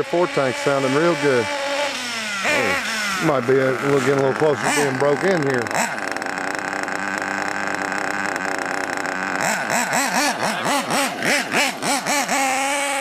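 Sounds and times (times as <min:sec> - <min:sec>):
model engine revving: 0:00.0 - 0:13.0.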